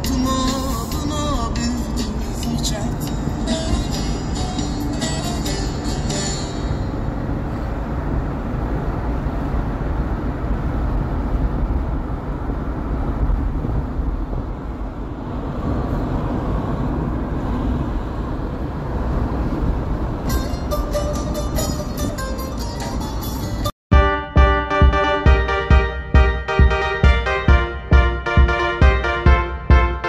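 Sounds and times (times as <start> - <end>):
car driving rumble: 0.0 - 30.0
road and engine noise: 0.0 - 30.0.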